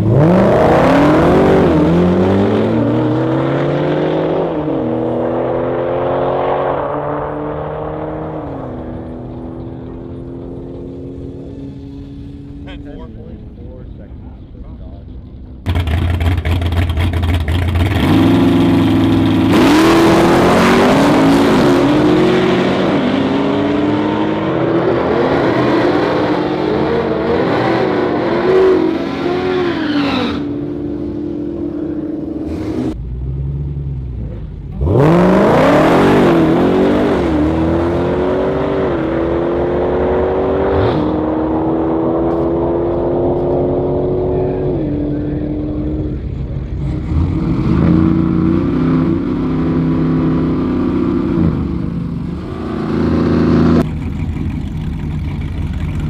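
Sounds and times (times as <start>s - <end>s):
drag racing car engines: 0.0s - 56.0s.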